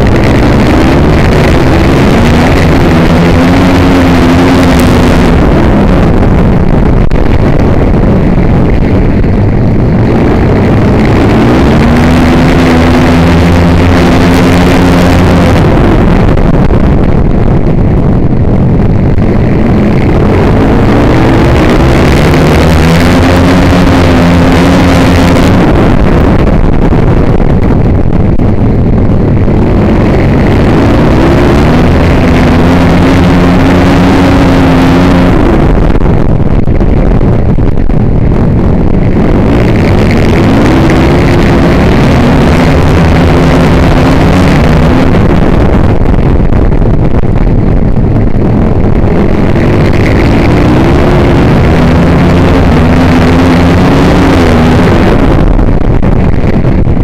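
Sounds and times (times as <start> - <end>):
loud rushing noise: 0.0 - 57.0
motorcycle engine revving: 0.0 - 57.0.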